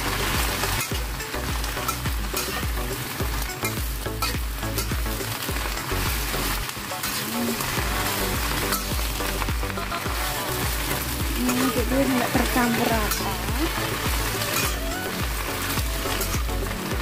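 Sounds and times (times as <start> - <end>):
food sizzling in a wok: 0.0 - 17.0
metal spatula scraping a pan: 0.0 - 17.0.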